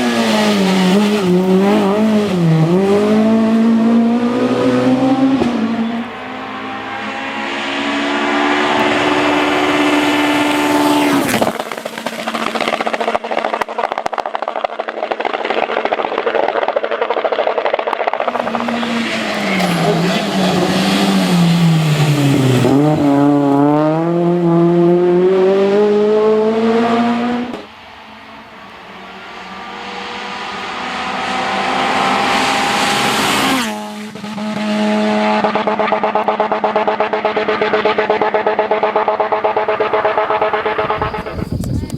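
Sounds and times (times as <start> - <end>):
rally car engines revving: 0.0 - 41.9
tyre and road noise: 0.0 - 41.9.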